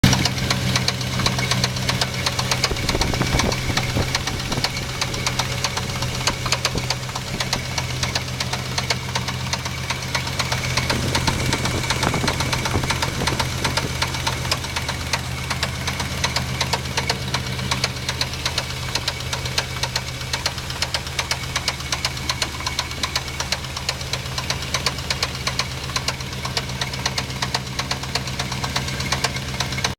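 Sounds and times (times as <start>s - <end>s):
pickup engine running with knock: 0.0s - 29.9s.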